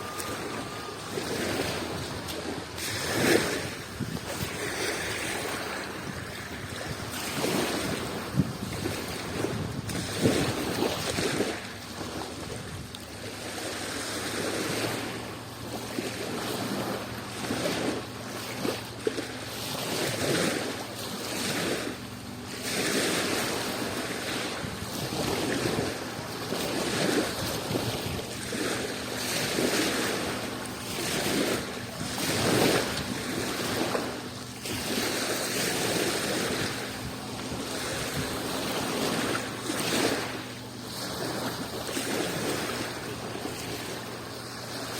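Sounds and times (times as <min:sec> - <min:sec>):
sea waves washing against shore: 0:00.0 - 0:44.9.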